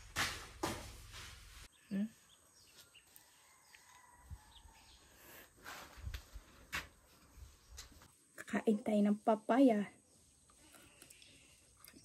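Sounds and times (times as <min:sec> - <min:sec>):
faint birds chirping: 0:01.6 - 0:12.0.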